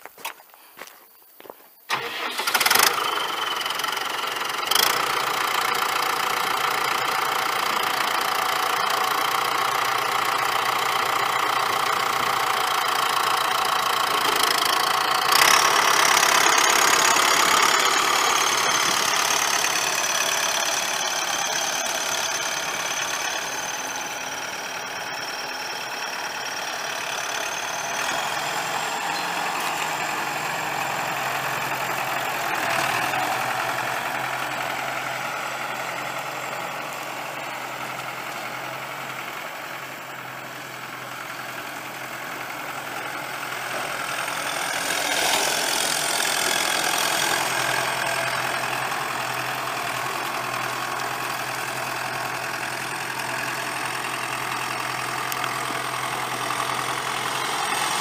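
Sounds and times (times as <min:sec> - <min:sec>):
diesel tractor engine running: 0:01.9 - 0:58.0.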